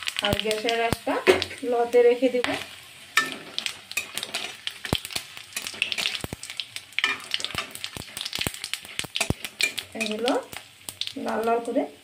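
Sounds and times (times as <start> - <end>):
spices sizzling in oil: 0.0 - 12.0.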